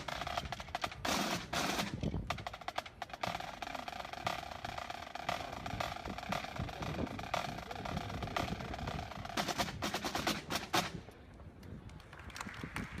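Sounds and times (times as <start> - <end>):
drums playing: 0.0 - 11.0
snare-like drum run: 0.0 - 11.0.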